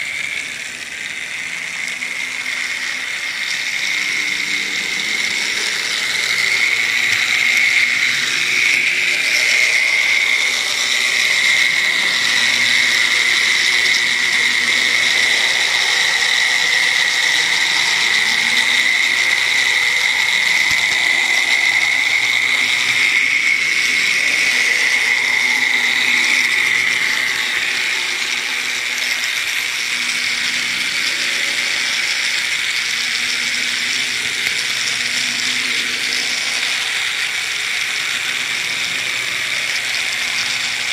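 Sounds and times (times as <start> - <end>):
model train motor whine: 0.0 - 40.9.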